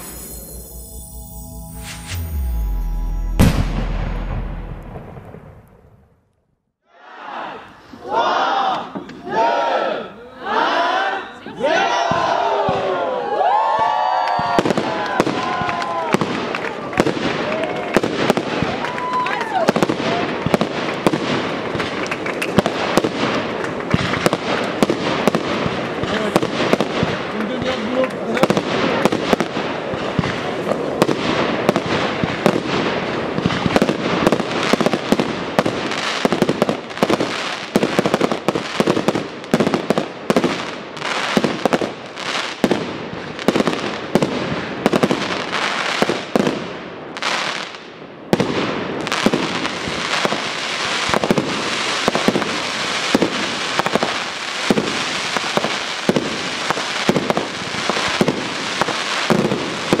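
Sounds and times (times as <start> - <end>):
fireworks bangs and pops: 3.3 - 6.2, 12.0 - 13.0, 13.7 - 60.0.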